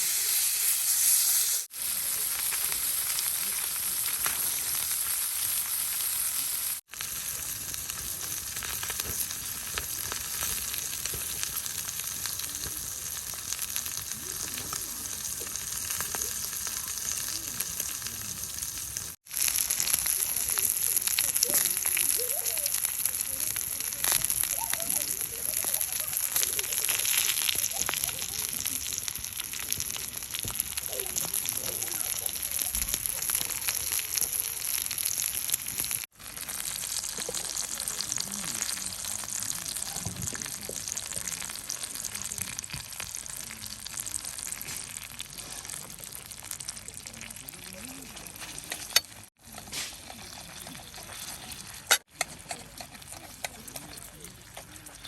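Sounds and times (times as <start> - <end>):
wood fire crackling: 1.6 - 55.0.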